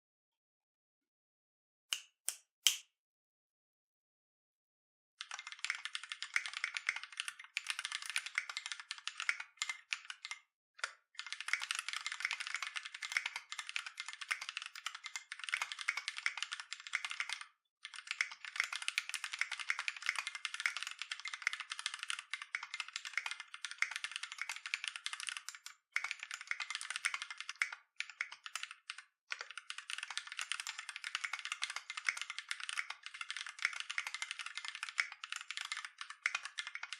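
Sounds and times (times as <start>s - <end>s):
mechanical keyboard typing: 5.2s - 10.4s, 11.2s - 36.9s.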